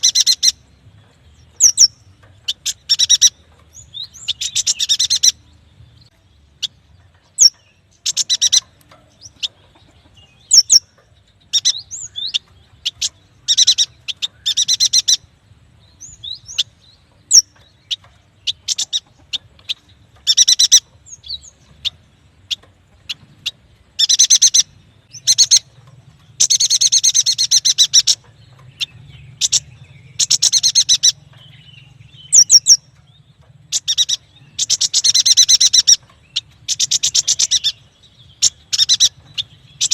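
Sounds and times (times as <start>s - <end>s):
bird sharp high chirps: 0.0s - 0.7s, 1.4s - 39.9s
bird buzzy trills: 0.0s - 39.9s.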